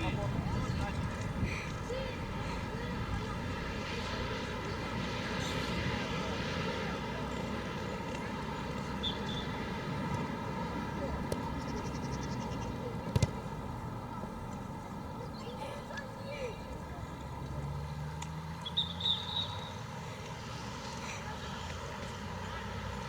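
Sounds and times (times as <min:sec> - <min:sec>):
faint distant voices: 0:00.0 - 0:18.6, 0:19.3 - 0:23.0
low crowd drone: 0:00.0 - 0:18.7.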